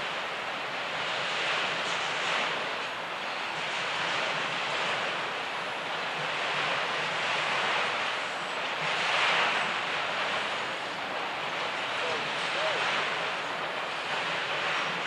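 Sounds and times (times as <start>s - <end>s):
steel wheels rushing on rails: 0.0s - 15.0s.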